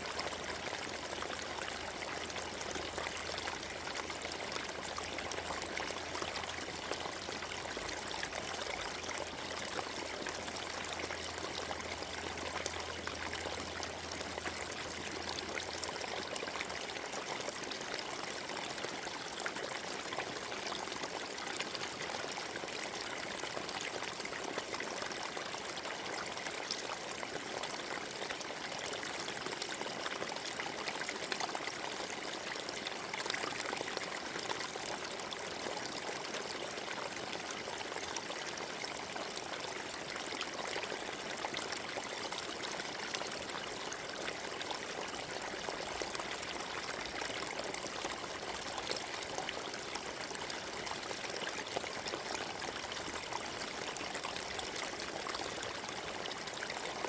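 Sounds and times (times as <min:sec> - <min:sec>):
stream rushing and trickling: 0:00.0 - 0:57.0.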